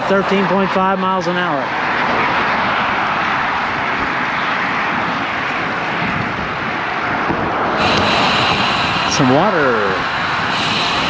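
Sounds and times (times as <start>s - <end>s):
tyres rushing on highway: 0.0s - 11.0s
wind over microphone: 0.0s - 11.0s.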